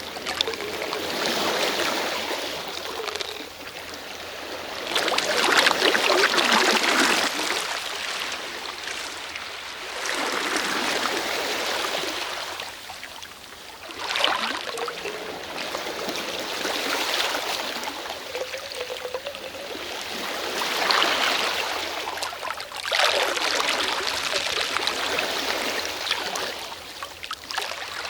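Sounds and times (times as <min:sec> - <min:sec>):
sea waves washing onto shore: 0:00.0 - 0:28.0.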